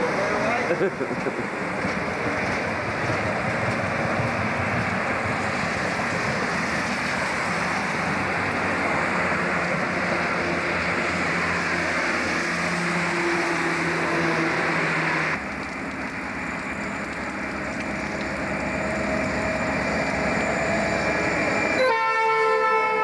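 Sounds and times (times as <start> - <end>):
diesel locomotive engines: 0.0 - 23.0
diesel railcar running past: 0.0 - 23.0
rumble of freight train: 0.0 - 23.0.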